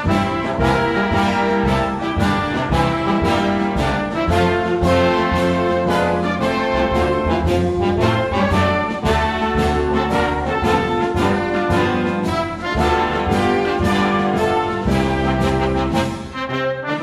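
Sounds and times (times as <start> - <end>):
steady drum beat: 0.0 - 16.4
bugles playing a tune: 0.0 - 17.0.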